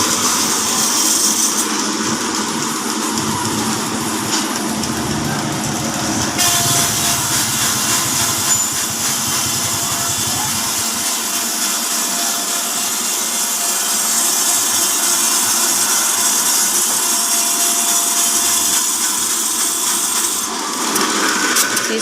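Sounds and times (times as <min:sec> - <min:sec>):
band saw cutting through log: 0:00.0 - 0:21.0.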